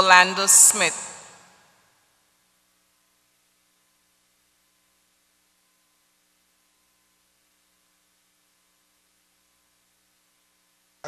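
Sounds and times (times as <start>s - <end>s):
faint electrical hum with hiss: 0.0s - 11.0s.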